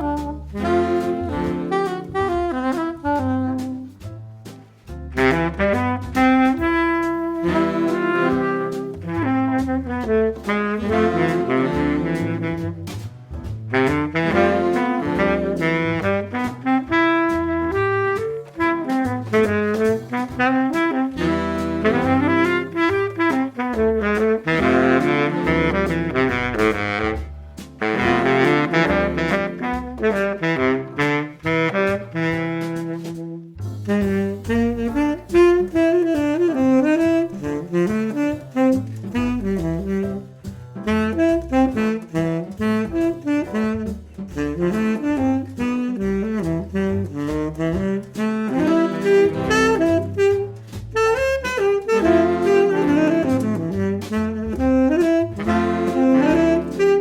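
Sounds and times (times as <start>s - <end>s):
instrumental jazz with saxophone: 0.0s - 57.0s.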